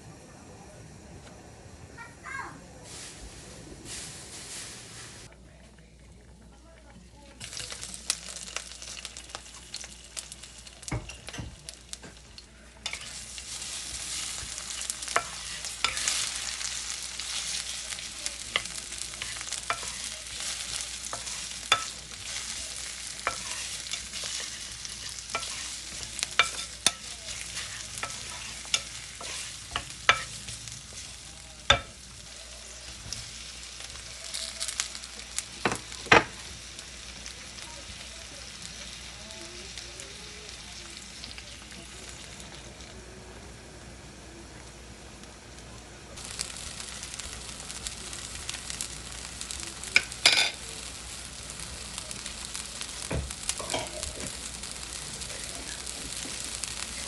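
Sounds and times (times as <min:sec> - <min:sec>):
food sizzling in frying pan: 0:00.0 - 0:05.3, 0:06.4 - 0:57.0.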